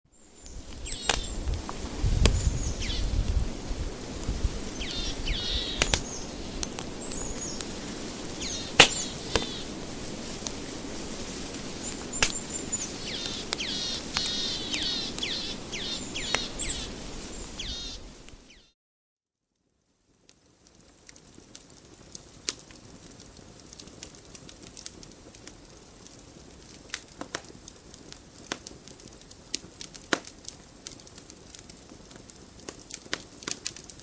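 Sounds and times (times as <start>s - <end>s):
wood fire crackling: 0.1s - 18.6s, 20.7s - 34.0s.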